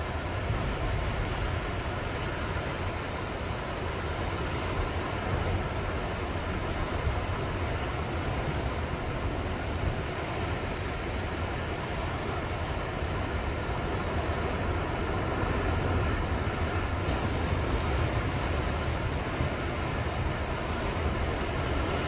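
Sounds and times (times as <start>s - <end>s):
sea surf breaking on rocks: 0.0s - 22.0s.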